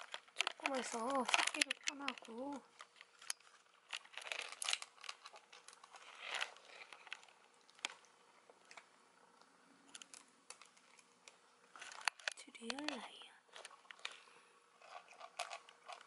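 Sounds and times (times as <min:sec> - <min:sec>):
kitten crunching dry kibble: 0:00.0 - 0:16.0.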